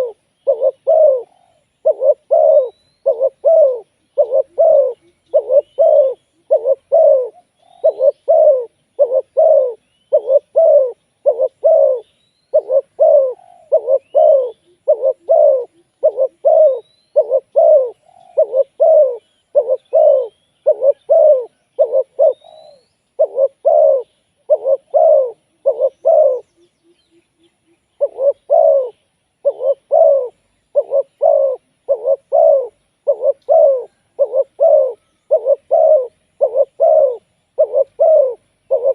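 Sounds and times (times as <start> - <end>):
doves cooing: 0.0 - 27.0, 28.0 - 38.9
small bird chirping: 0.0 - 38.9.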